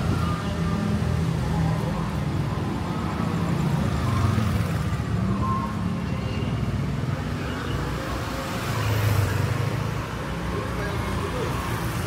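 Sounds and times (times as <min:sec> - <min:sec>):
scooter engines passing: 0:00.0 - 0:12.0.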